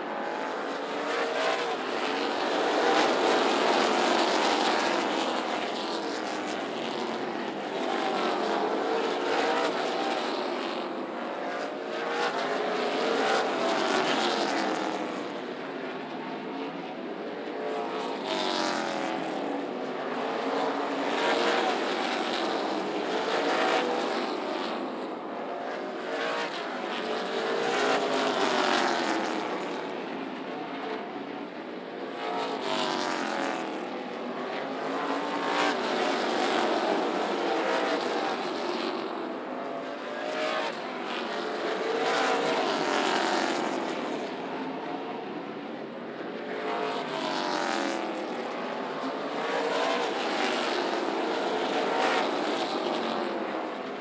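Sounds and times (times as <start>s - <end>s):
race car engines racing: 0.0s - 54.0s.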